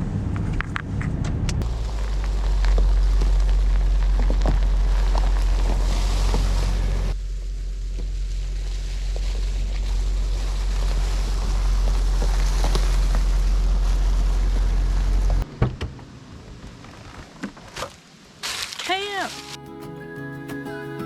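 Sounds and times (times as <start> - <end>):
car interior road rumble: 0.0 - 17.4.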